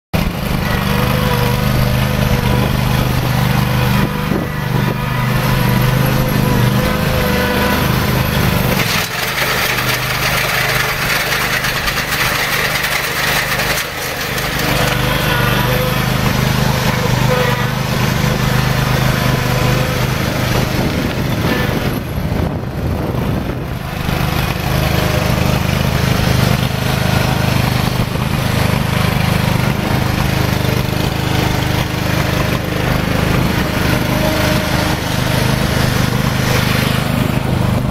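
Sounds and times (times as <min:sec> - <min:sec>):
lawn tractor engine running: 0:00.1 - 0:37.9.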